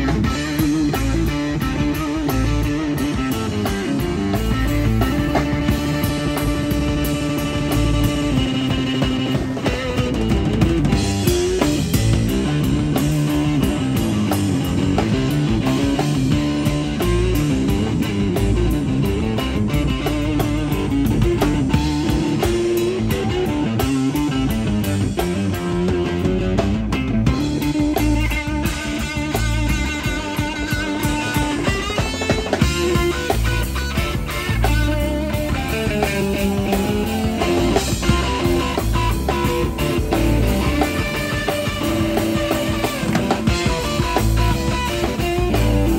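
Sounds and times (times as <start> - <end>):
bass guitar: 0.0 - 45.9
drum kit: 0.0 - 45.9
electric guitar melody: 0.0 - 45.9.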